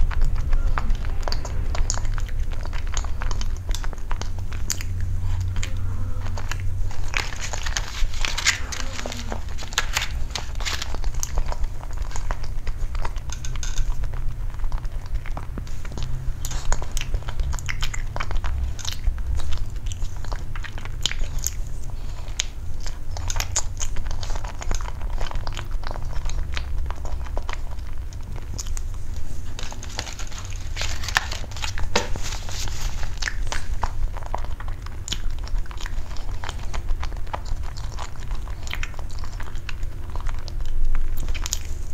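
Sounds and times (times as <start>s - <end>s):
chewing and biting pastry: 0.0s - 41.9s
mouth clicks and smacks: 0.0s - 41.9s
steady low rumble: 0.0s - 41.9s.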